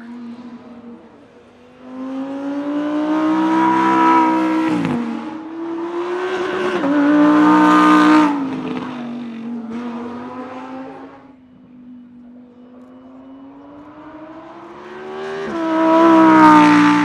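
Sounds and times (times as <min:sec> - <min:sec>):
sports car accelerating past: 0:01.6 - 0:11.3, 0:12.9 - 0:17.0.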